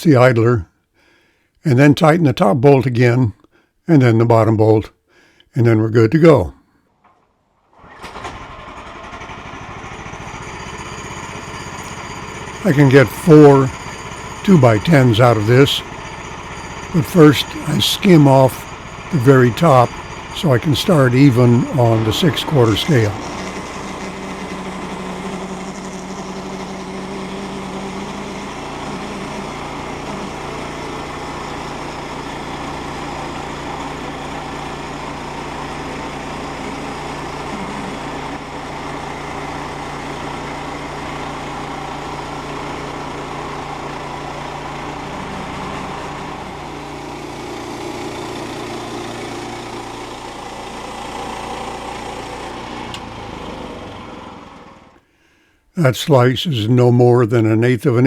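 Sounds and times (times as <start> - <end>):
small gasoline engine running: 7.8 - 55.1.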